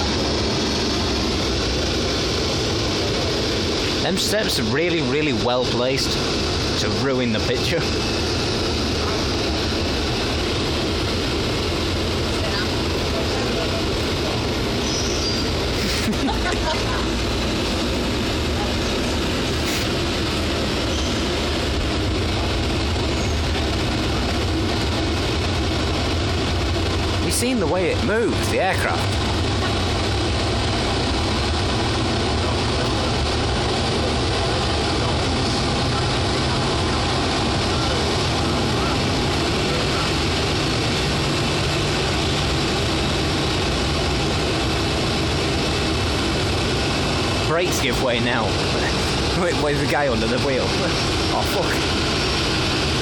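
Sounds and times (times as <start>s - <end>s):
airliner and tug running noise: 0.0s - 53.0s.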